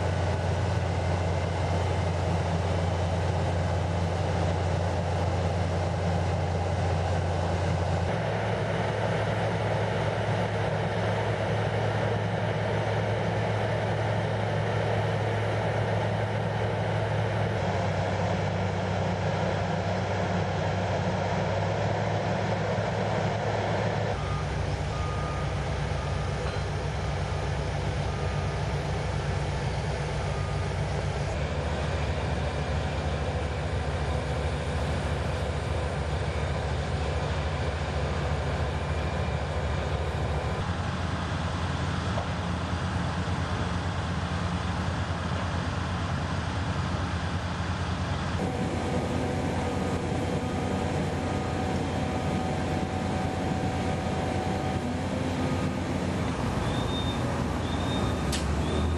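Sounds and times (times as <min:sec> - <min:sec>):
heavy construction machinery drone: 0:00.0 - 0:58.9.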